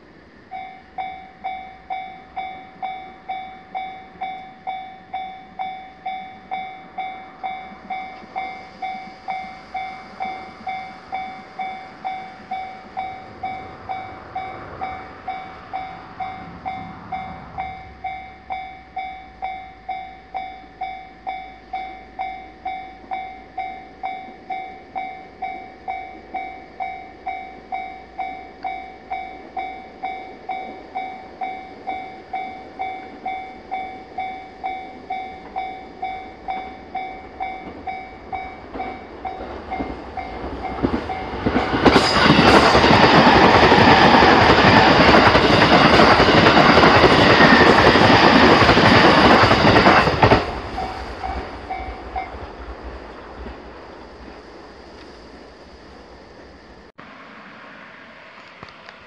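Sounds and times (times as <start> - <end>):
level-crossing warning bell: 0.0 - 52.7
train wheels on rails: 0.0 - 56.9.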